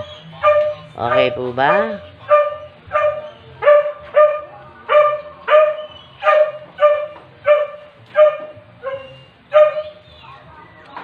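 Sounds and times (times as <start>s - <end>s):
dog barking: 0.0s - 10.0s.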